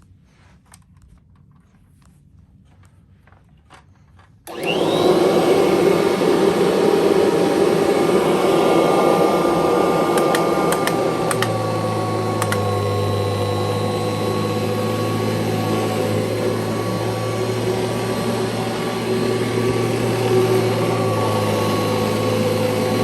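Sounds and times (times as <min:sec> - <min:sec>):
vacuum cleaner motor whine: 0:04.5 - 0:23.0.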